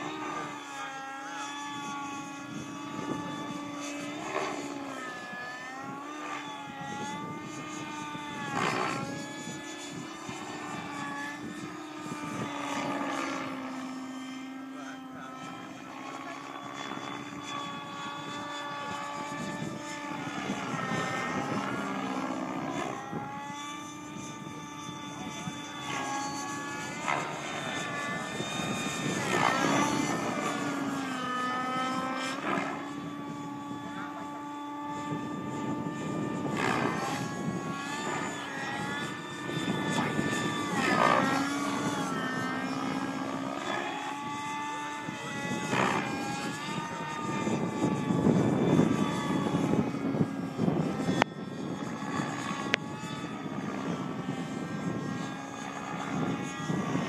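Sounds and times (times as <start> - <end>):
rc helicopter engine and rotor: 0.0 - 57.0.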